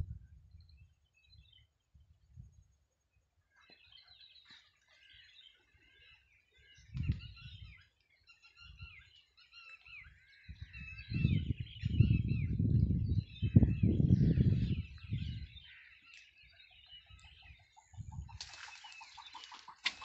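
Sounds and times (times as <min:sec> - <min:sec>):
small birds chirping: 0:00.4 - 0:20.0.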